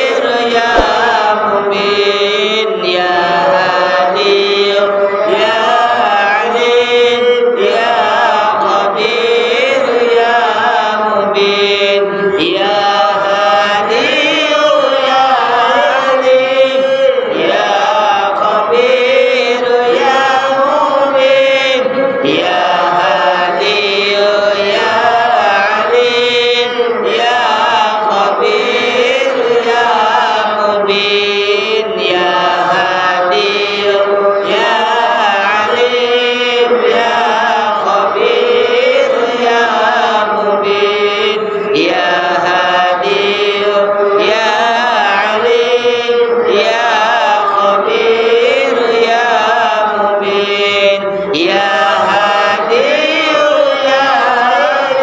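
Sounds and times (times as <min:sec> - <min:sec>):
devotional chanting: 0:00.0 - 0:55.0.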